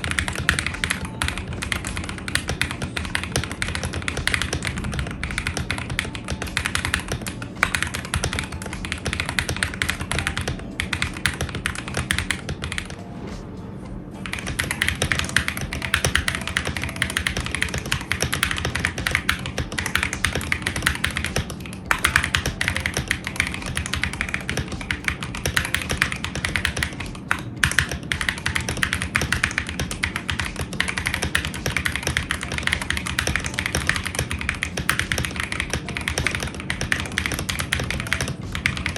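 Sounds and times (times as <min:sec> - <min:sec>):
typing on mechanical keyboard: 0:00.0 - 0:13.0, 0:14.2 - 0:38.9.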